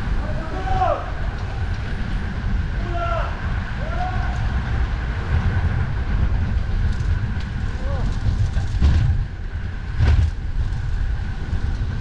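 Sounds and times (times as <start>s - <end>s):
traffic noise: 0.0s - 12.0s
wind buffeting microphone: 0.0s - 12.0s.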